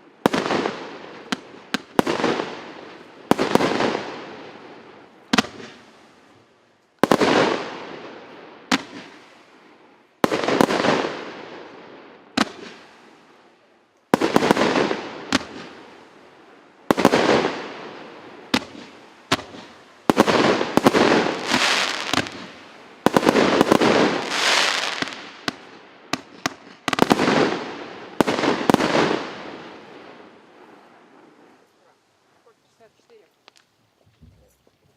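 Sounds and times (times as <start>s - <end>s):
firework bangs: 0.2s - 6.1s, 7.0s - 9.5s, 10.2s - 13.2s, 14.1s - 34.5s.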